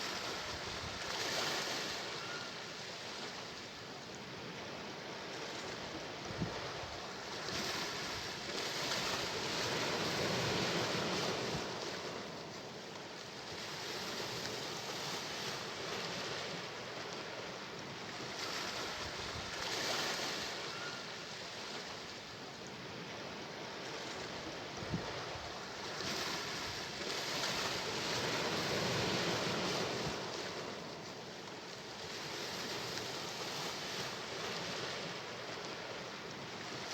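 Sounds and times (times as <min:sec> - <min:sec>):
sea waves breaking ashore: 0:00.0 - 0:36.9.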